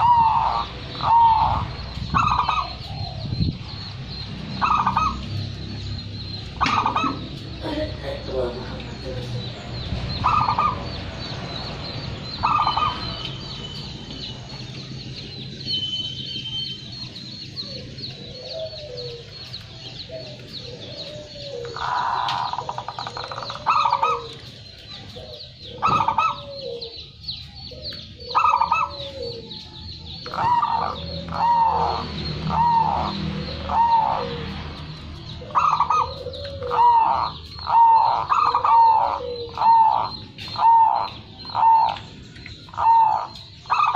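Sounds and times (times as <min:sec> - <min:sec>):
dove cooing: 0:00.0 - 0:09.6, 0:10.2 - 0:11.2, 0:12.2 - 0:13.3, 0:17.4 - 0:43.9
steady high chirping: 0:00.0 - 0:43.9.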